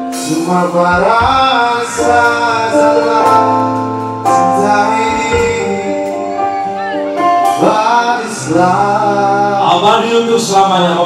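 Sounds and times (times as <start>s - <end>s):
instrumental accompaniment: 0.0s - 11.0s
man singing slow song: 0.0s - 11.0s.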